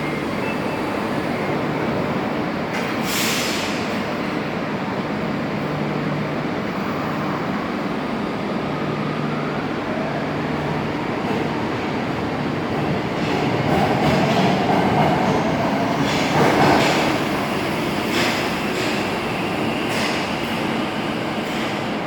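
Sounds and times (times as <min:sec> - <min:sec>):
subway train wheels clacking: 0:00.0 - 0:22.0.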